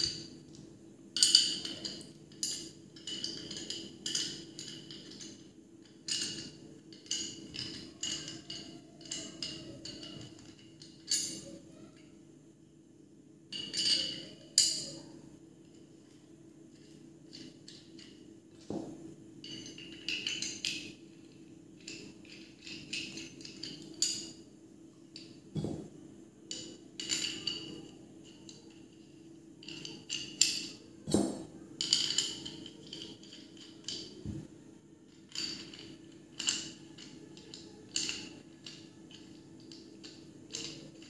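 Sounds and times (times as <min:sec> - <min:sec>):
metal bolts and nuts clinking: 0:01.2 - 0:11.6, 0:13.5 - 0:15.0, 0:16.7 - 0:24.4, 0:25.2 - 0:25.9, 0:26.5 - 0:28.9, 0:29.6 - 0:34.3, 0:35.1 - 0:41.0.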